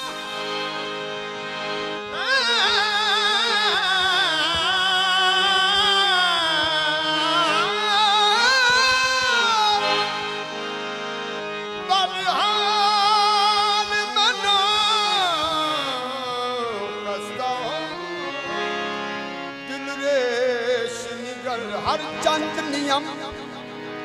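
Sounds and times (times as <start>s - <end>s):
harmonium drone: 0.0s - 24.0s
man singing with vibrato: 2.0s - 24.0s.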